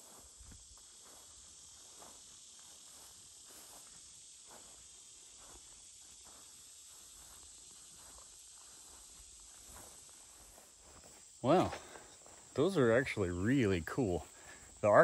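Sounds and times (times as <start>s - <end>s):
footsteps on grass: 0.0s - 15.0s
insects hissing: 0.0s - 15.0s.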